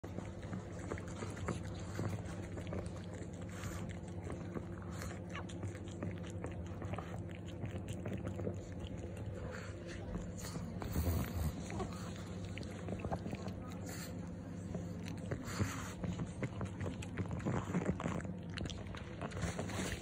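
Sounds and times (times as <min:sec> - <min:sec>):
dog licking and chewing: 0:00.0 - 0:20.0
low steady hum: 0:00.0 - 0:20.0.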